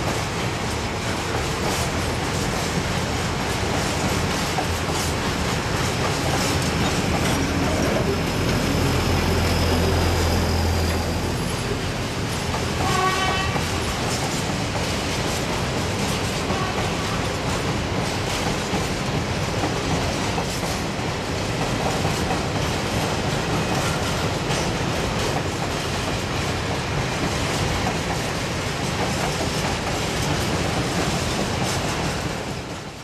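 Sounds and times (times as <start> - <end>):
train wheels rolling on rail: 0.0 - 33.0.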